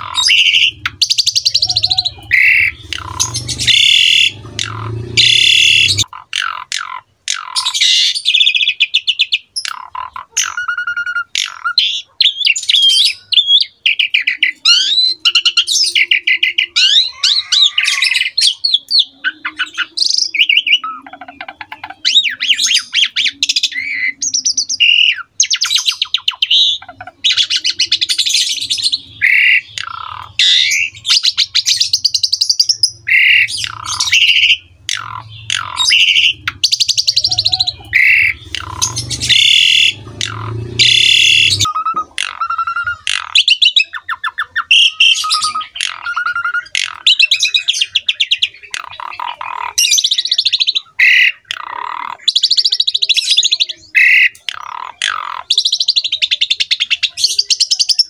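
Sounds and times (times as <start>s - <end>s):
starling singing: 0.0s - 58.0s.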